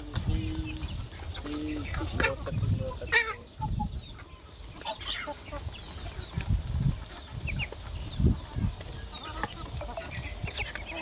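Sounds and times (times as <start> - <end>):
chickens clucking: 0.0 - 11.0
high peeping calls: 0.0 - 11.0.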